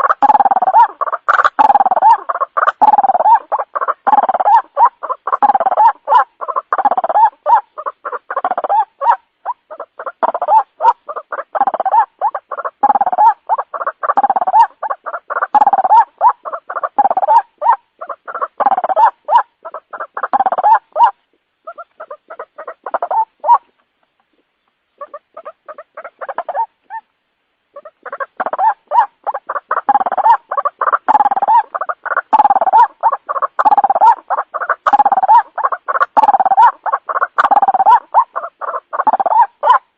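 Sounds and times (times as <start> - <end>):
bird calls repeated rapidly: 0.0 - 39.9.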